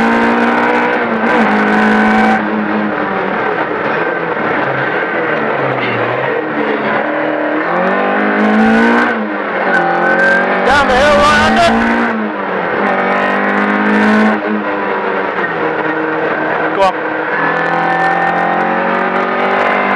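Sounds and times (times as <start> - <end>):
rally car engine accelerating: 0.0 - 19.9.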